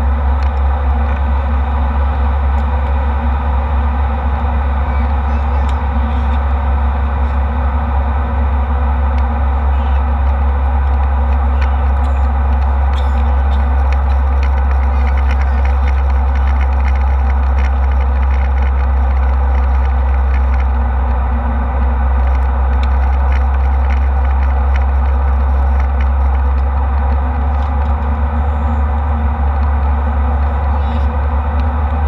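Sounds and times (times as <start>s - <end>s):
faint rattles: 0.0s - 32.0s
jet cabin engine drone: 0.0s - 32.0s.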